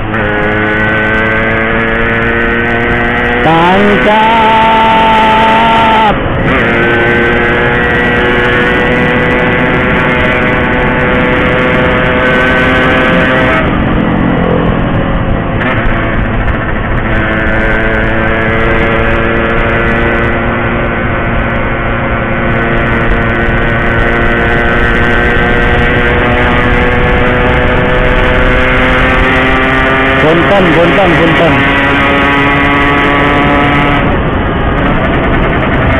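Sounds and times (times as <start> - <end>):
two-stroke motorcycle engine revving: 0.0 - 35.9.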